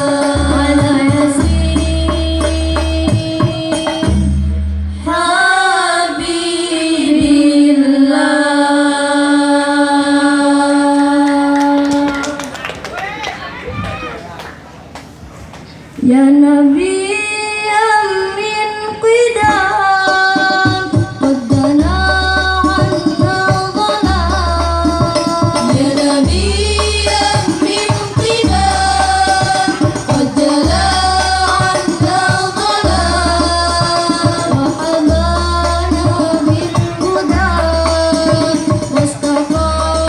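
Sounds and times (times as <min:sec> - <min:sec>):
girls singing through microphones: 0:00.0 - 0:12.1, 0:16.0 - 0:40.0.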